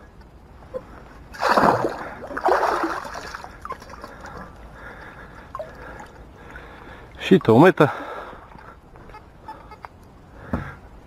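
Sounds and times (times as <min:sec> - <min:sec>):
quiet water sounds: 0:00.0 - 0:11.0
water splashing and sloshing: 0:00.6 - 0:10.2.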